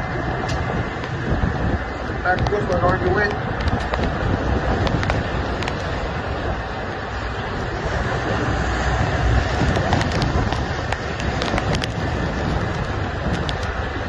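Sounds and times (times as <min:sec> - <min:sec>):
low steady rumble: 0:00.0 - 0:14.0
waves breaking: 0:00.0 - 0:14.0
wind buffeting microphone: 0:00.0 - 0:14.0.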